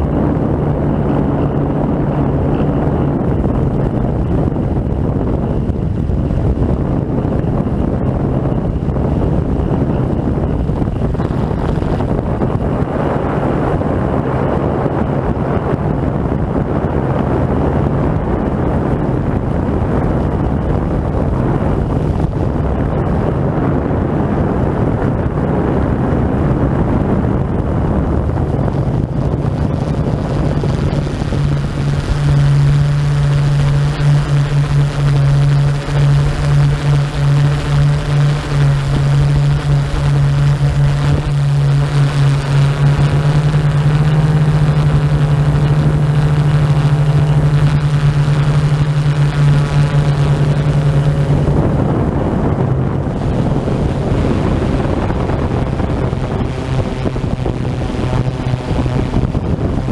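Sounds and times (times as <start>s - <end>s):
drone propellers droning: 0.0s - 59.9s
wind buffeting microphone: 0.0s - 59.9s.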